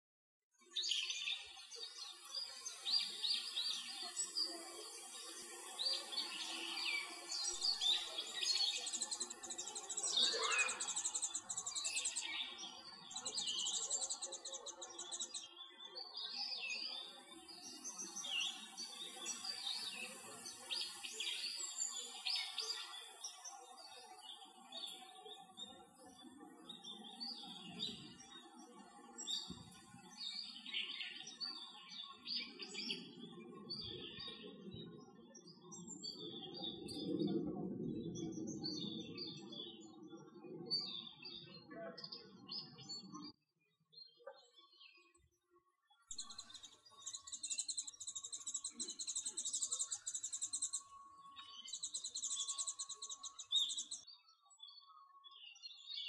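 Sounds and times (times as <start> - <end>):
songbirds chirping: 0.6 - 56.0.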